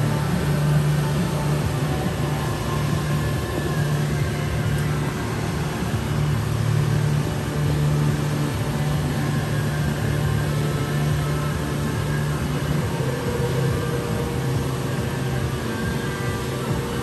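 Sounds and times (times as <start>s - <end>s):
grinding machine motor hum: 0.0s - 17.0s.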